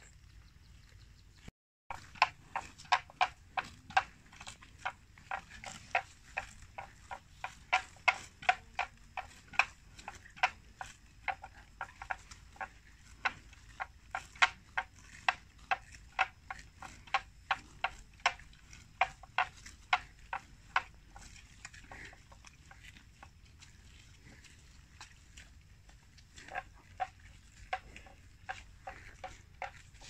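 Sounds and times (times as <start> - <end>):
animals tearing grass: 1.9 - 30.0.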